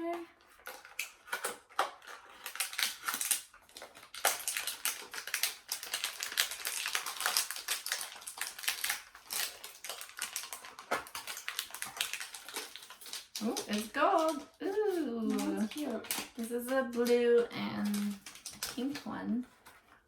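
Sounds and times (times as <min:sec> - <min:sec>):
packaging tearing and crinkling: 0:00.0 - 0:20.0.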